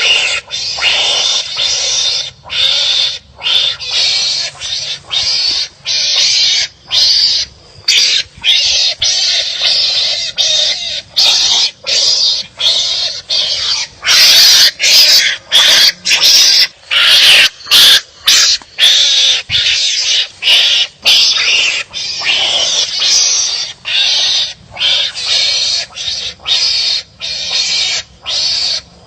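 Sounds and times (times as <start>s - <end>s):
animals fighting with harsh calls: 0.0s - 29.0s.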